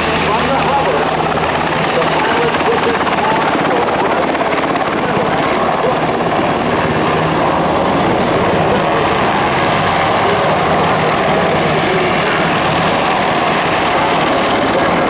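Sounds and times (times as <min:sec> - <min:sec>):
helicopter engines running: 0:00.0 - 0:15.0
rotor blades beating: 0:00.0 - 0:15.0.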